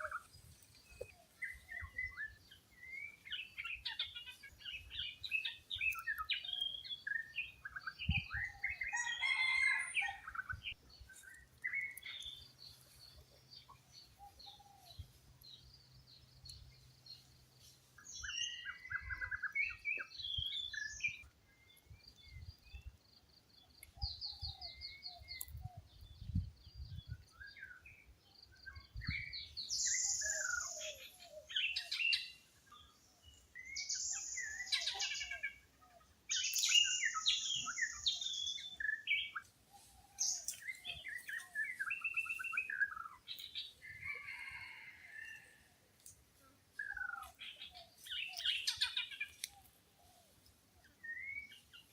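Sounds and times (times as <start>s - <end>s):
birds chirping and calling: 0.0s - 51.9s.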